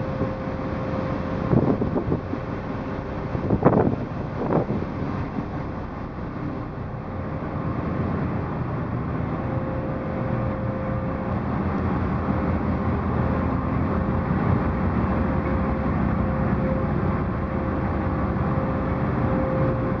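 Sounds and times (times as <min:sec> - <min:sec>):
ferry engine drone: 0:00.0 - 0:20.0.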